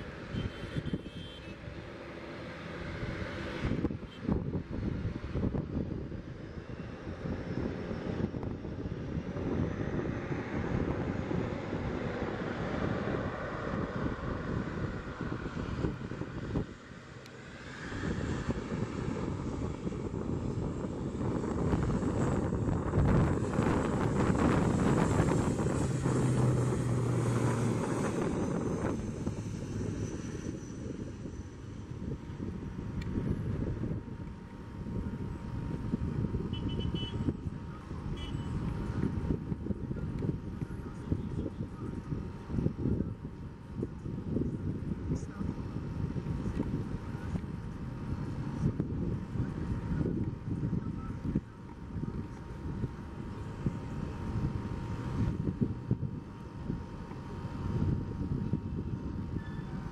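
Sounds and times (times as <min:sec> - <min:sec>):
faint engine whine: 0:00.0 - 0:59.9
noisy rush: 0:00.0 - 0:59.9
turboprop engines rumbling: 0:00.0 - 0:59.9.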